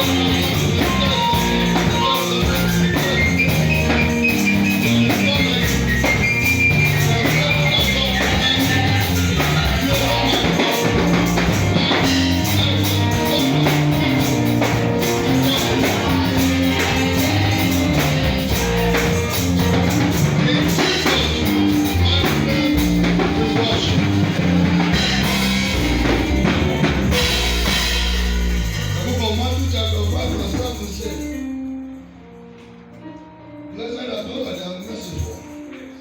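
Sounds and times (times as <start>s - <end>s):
steady drum beat: 0.0s - 31.5s
bass line: 0.0s - 32.4s
band music: 0.0s - 36.0s.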